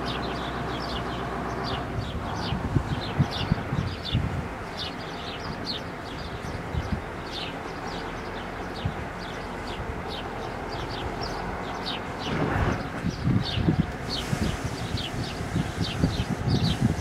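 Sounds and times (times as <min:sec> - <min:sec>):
small birds chirping: 0:00.0 - 0:17.0
wind buffeting microphone: 0:00.0 - 0:17.0.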